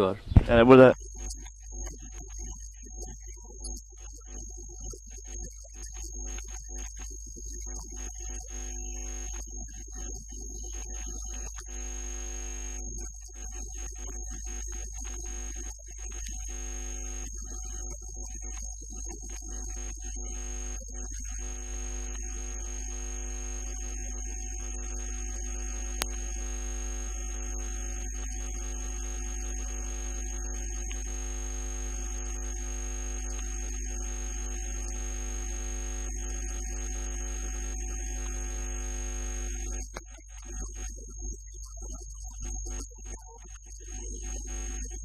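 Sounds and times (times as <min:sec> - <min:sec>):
thin high whine: 0:00.0 - 0:04.3, 0:05.2 - 0:40.0
electrical mains hum: 0:00.0 - 0:41.4.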